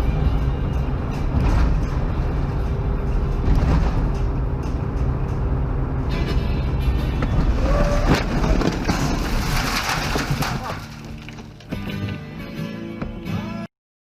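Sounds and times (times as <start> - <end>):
car engine and tyre rumble: 0.0 - 13.3.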